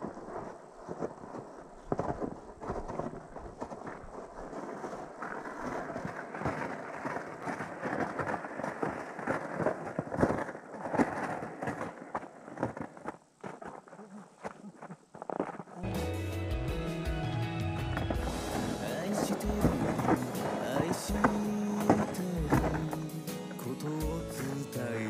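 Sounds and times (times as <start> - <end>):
boots crunching through snow: 0.0 - 13.9, 14.6 - 25.0
plastic sled scraping over snow: 0.0 - 15.8, 17.7 - 25.0.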